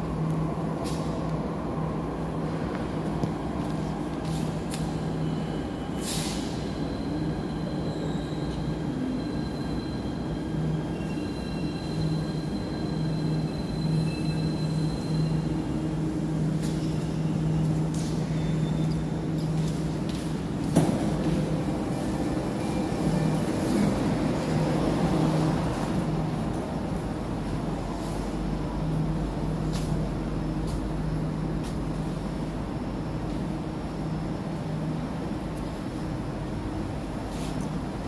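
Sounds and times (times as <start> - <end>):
train rumble and hum: 0.0 - 38.0.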